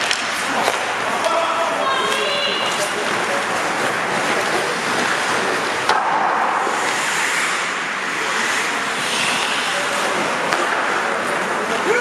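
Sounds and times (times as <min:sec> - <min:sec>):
skates hissing on ice: 0:02.4 - 0:12.0.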